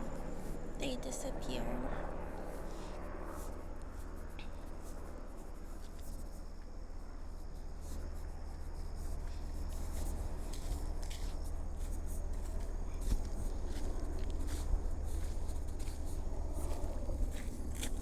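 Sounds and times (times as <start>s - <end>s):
thin high insect hum: 0.0s - 18.0s.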